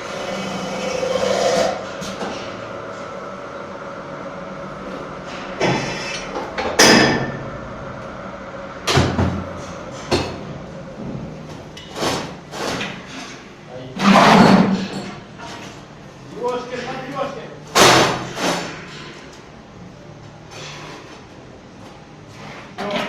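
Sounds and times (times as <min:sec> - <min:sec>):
steady hum: 0:00.0 - 0:22.6.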